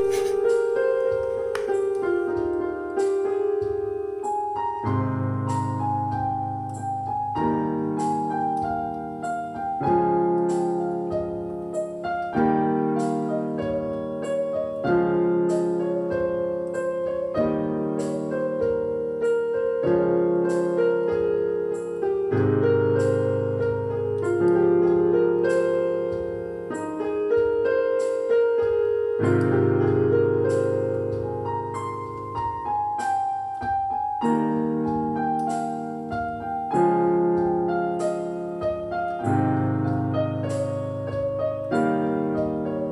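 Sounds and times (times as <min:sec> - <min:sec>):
piano music: 0:00.0 - 0:42.9.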